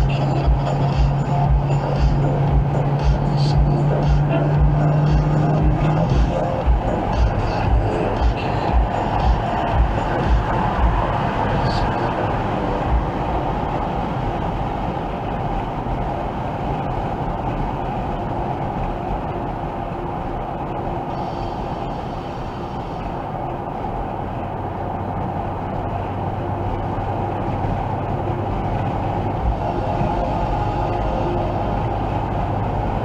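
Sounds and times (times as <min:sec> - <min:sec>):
low engine hum: 0:00.0 - 0:33.0
tyre and road noise: 0:00.0 - 0:33.0.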